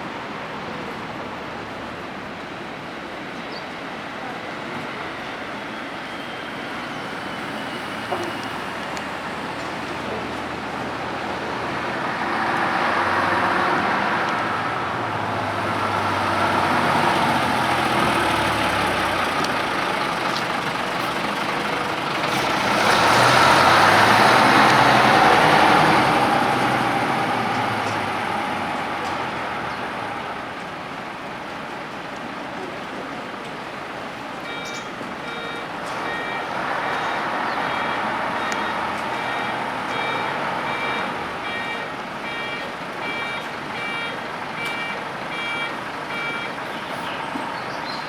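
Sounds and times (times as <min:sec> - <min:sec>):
bus diesel engine: 0:00.0 - 0:48.0
tyre and road noise: 0:00.0 - 0:48.0.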